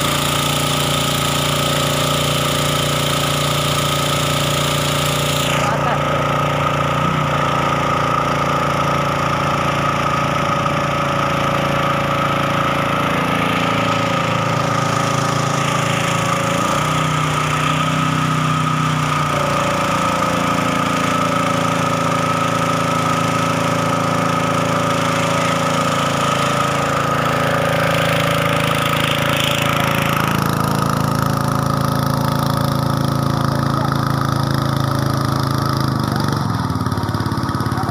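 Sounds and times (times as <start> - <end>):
petrol engine running under load: 0.0 - 37.9
water jetting from spray gun: 0.0 - 37.9.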